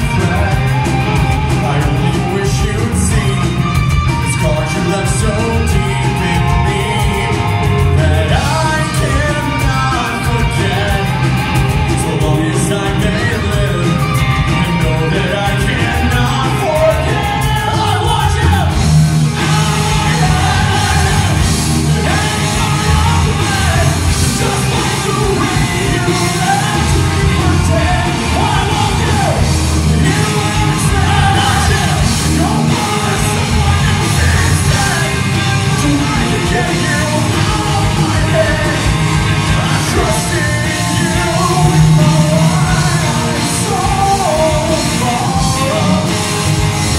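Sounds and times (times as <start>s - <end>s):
singer belting into microphone: 0.0s - 46.4s
live rock band playing: 0.0s - 46.9s.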